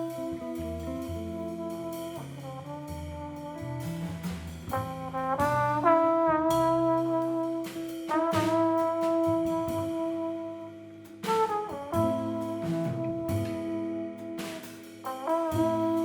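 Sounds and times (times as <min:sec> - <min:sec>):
bass: 0:00.0 - 0:16.0
drums with cymbals: 0:00.0 - 0:16.0
trombone melody: 0:00.0 - 0:16.0.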